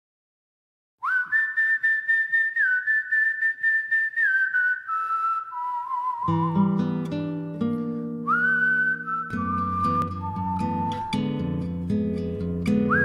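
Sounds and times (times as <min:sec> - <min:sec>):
whistled melody: 0:01.0 - 0:07.4, 0:08.0 - 0:13.0.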